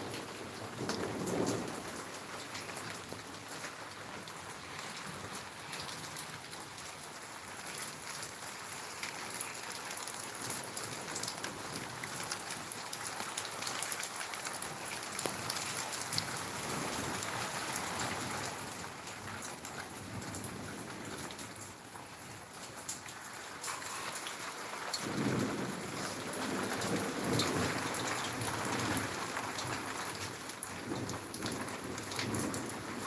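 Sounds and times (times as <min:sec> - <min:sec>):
heavy rain pattering: 0:00.0 - 0:33.0.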